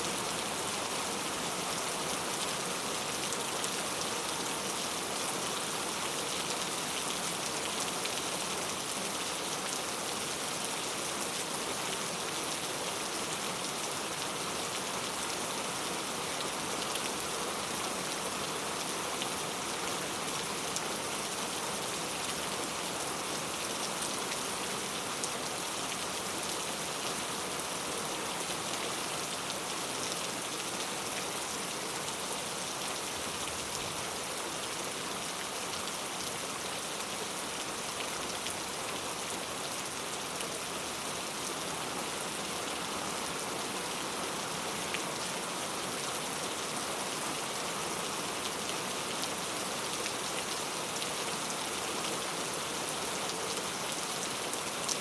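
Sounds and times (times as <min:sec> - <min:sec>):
heavy rain on hard surfaces: 0:00.0 - 0:55.0.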